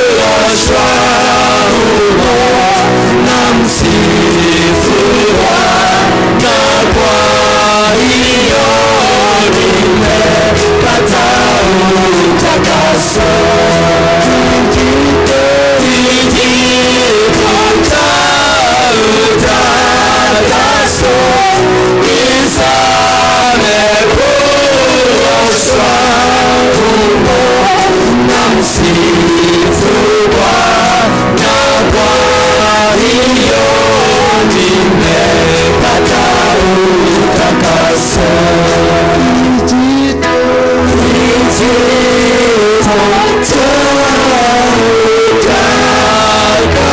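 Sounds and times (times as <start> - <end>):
instrumental band with drums: 0.0 - 46.9
voices singing worship music: 0.0 - 46.9.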